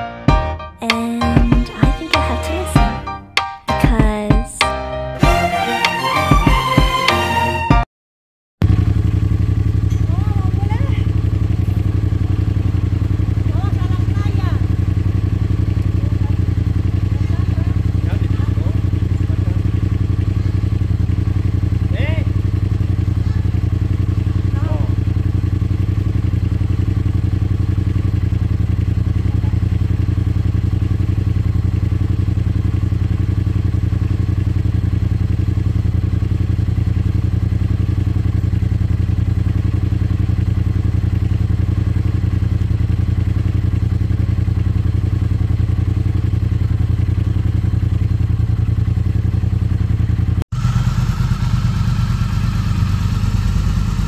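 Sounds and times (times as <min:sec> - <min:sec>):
motorcycle engine idling: 0:08.6 - 0:54.0.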